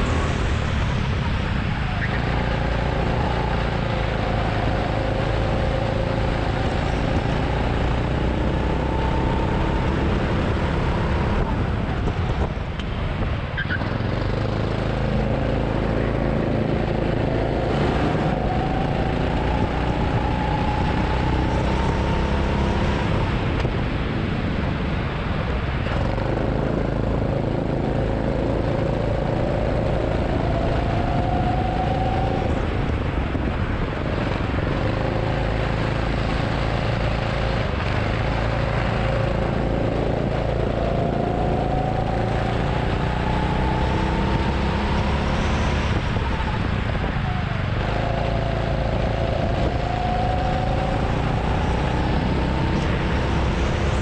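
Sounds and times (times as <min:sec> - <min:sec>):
road and wind noise: 0:00.0 - 0:54.0.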